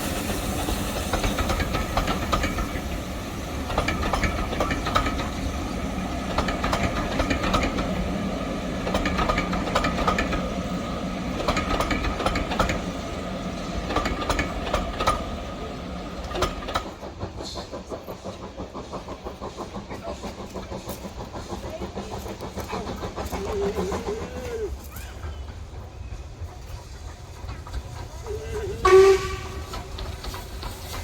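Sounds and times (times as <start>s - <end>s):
train wheels clattering over rail joints: 0.0s - 31.0s.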